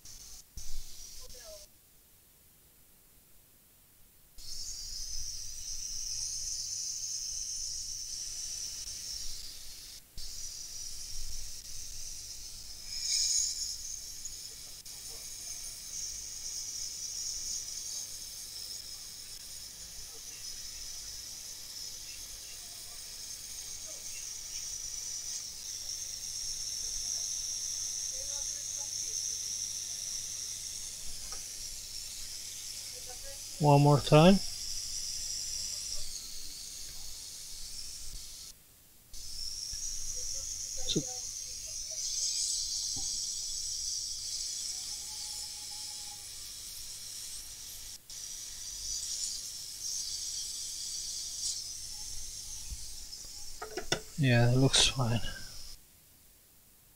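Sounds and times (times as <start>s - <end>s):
hot air blower hissing: 0.0s - 1.6s, 4.4s - 38.6s, 39.2s - 55.8s.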